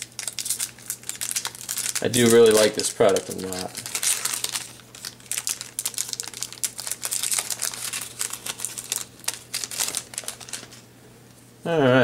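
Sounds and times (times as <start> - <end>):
foil wrapper crinkling: 0.0 - 10.9.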